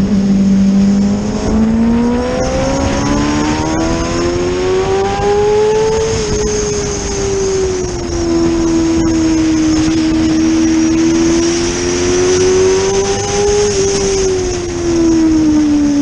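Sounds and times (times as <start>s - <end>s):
motorcycle engine at high revs: 0.0s - 16.0s
wind rushing over microphone: 0.0s - 16.0s.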